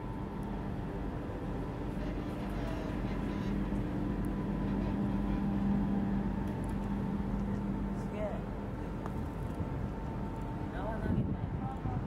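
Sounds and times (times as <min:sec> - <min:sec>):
ship machinery humming: 0:00.0 - 0:12.0.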